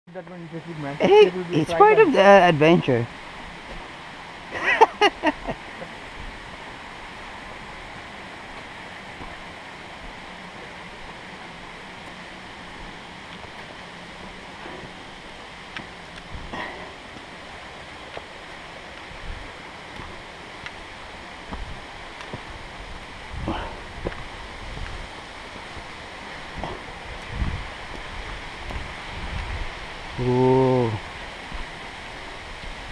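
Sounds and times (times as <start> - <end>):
stream water flowing: 0.1 - 32.9.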